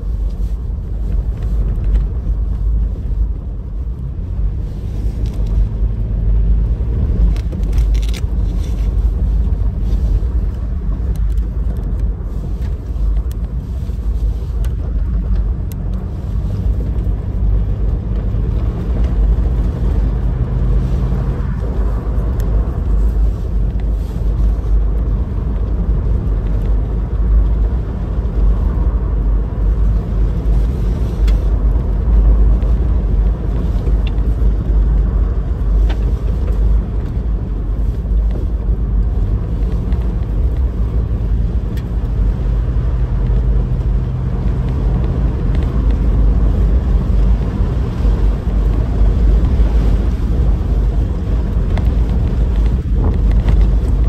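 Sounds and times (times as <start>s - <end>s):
tyres rumbling on dirt road: 0.0s - 54.0s.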